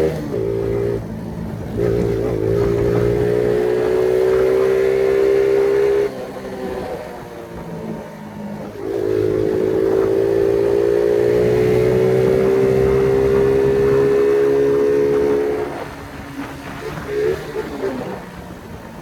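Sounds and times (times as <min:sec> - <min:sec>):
moped engine revving: 0:00.0 - 0:19.0.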